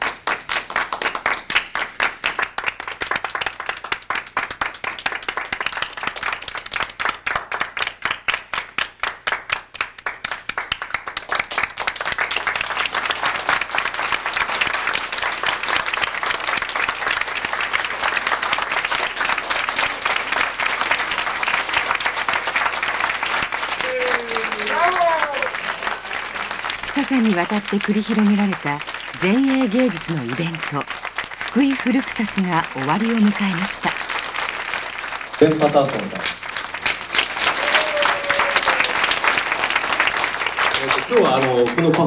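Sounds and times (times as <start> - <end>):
continuous applause: 0.0 - 42.0
crowd clapping in rhythm: 0.0 - 42.0.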